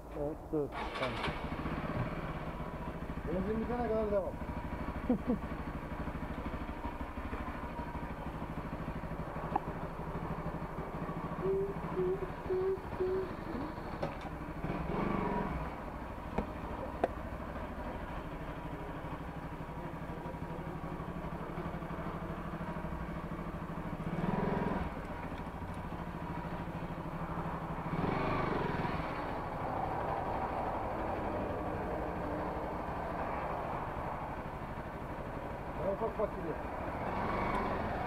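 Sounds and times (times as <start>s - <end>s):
motorcycle engine idling: 0.2s - 38.0s.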